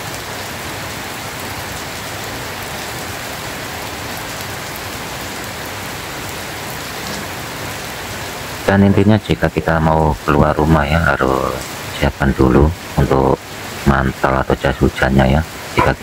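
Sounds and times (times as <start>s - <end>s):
heavy rain on concrete: 0.0s - 16.0s.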